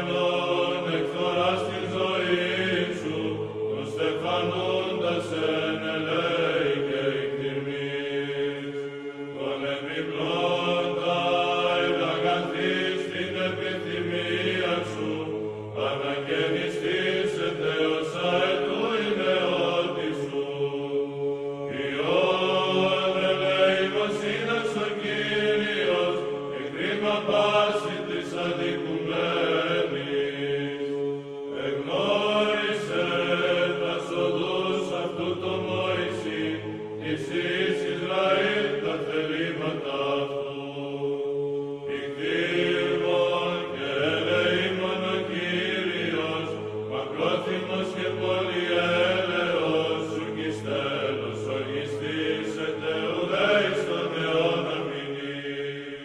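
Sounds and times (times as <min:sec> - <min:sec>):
voices chanting a hymn: 0:00.0 - 0:56.0.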